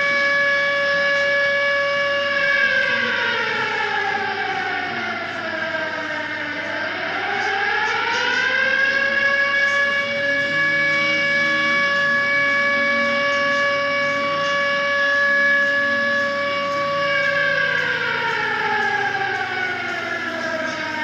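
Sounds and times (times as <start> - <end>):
tornado warning siren: 0.0 - 21.0.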